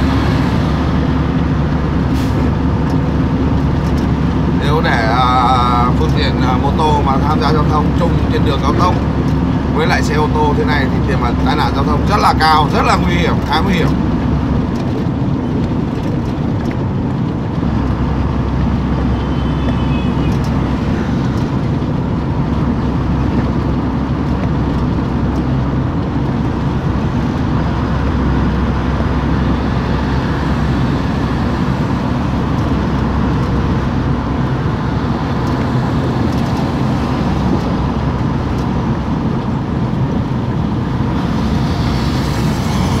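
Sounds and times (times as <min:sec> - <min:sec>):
engine and tyre road noise: 0:00.0 - 0:43.0.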